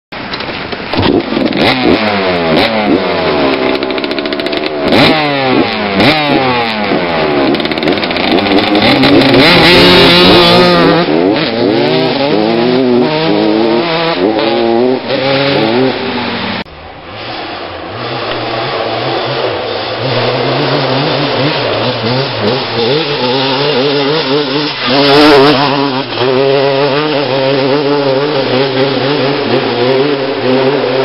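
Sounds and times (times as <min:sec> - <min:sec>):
motocross bikes revving: 0:00.8 - 0:31.0.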